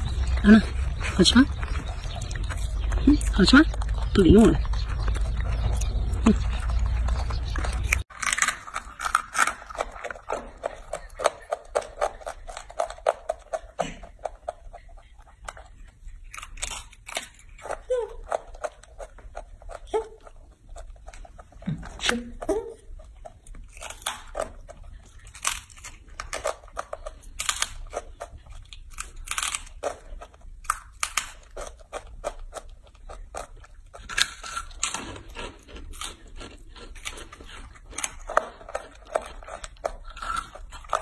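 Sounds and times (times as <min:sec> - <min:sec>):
monkey crunching food: 0:00.0 - 0:41.0.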